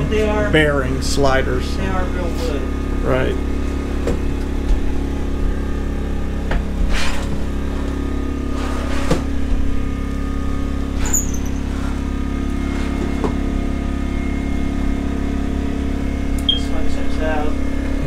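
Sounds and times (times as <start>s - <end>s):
generator droning: 0.0s - 18.0s.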